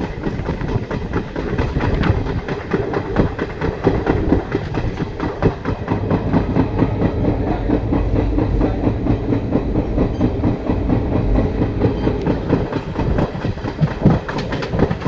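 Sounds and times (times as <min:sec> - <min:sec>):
rapid track clatter: 0:00.0 - 0:15.0
train wheels on rails: 0:00.0 - 0:15.0
low rumble: 0:01.5 - 0:14.2.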